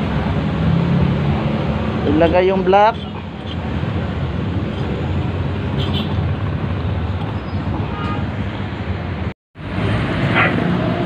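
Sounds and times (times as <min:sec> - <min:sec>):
motor traffic rumble: 0:00.0 - 0:11.0.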